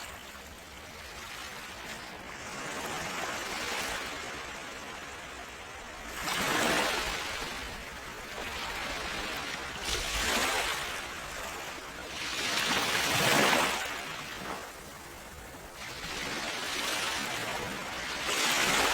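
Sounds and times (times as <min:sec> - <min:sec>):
ocean waves surging: 0:00.0 - 0:18.9.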